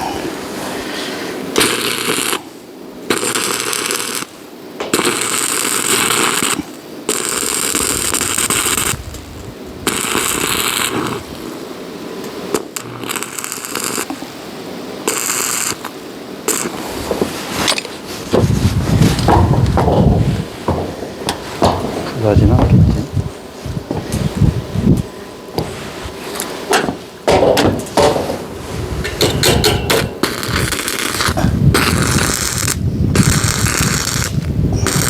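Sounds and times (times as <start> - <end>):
welding arc crackling: 0.0 - 35.0.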